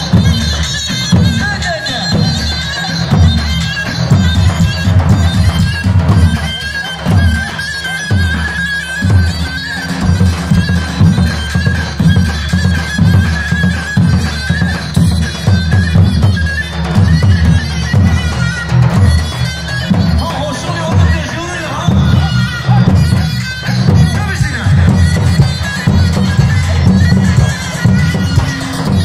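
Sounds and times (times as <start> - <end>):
shrill reedy pipe melody: 0.0 - 29.0.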